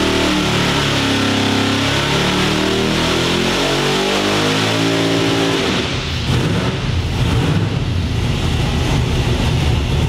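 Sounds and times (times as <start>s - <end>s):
race engine revving: 0.0s - 10.0s.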